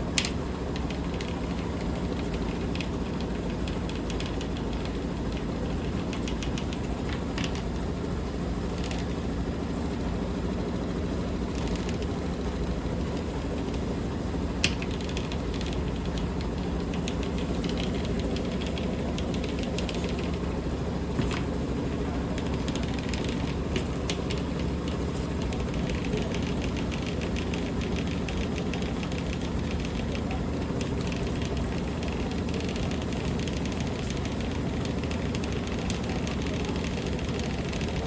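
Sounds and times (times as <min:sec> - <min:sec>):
light rattle of clicks: 0:00.0 - 0:07.9, 0:08.6 - 0:38.0
washing machine spinning: 0:00.0 - 0:38.0.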